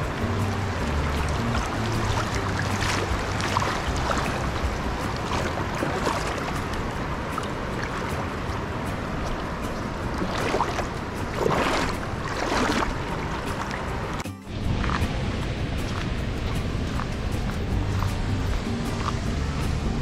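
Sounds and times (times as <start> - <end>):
stream water rushing: 0.0 - 20.0
water splashes: 0.0 - 20.0.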